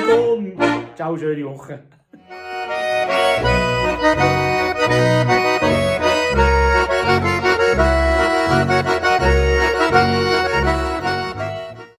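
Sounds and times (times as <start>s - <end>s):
accordion folk music: 0.0s - 1.2s, 2.2s - 11.9s
oom-pah bass: 0.0s - 1.2s, 2.2s - 11.9s.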